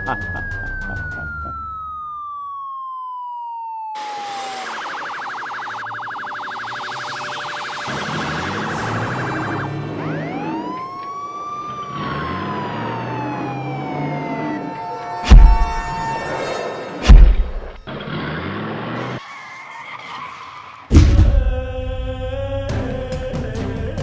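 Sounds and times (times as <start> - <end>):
electronic police siren: 0.0 - 19.6.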